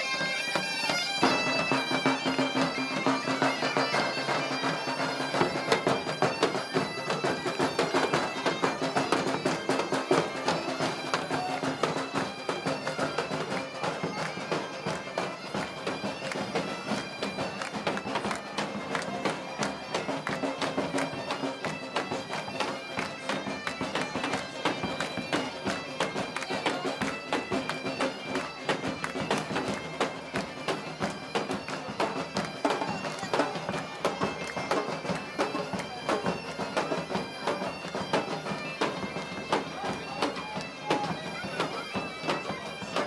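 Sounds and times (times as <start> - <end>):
bagpipe playing folk tune: 0.0 - 43.0.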